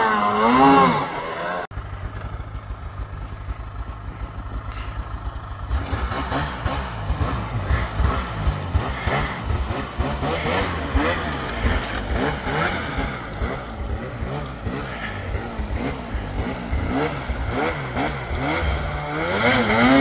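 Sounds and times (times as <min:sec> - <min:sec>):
snowmobile engine revving: 0:00.0 - 0:20.0
snowmobile engines idling: 0:00.0 - 0:20.0.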